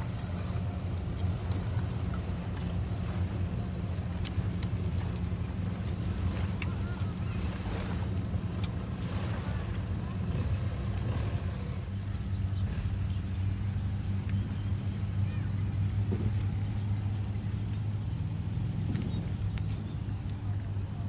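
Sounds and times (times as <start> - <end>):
boat engine idling: 0.0 - 21.0
insects droning: 0.0 - 21.0.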